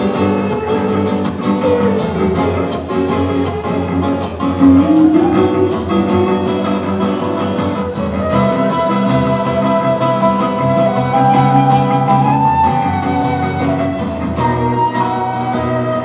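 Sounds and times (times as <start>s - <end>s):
flute melody: 0.0s - 16.0s
strummed acoustic guitar: 0.0s - 16.0s.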